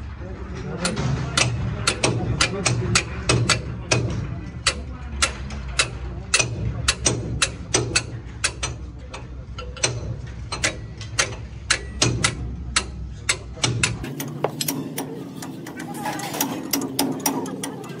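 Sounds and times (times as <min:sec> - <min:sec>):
spanner clicking on metal: 0:00.8 - 0:18.0.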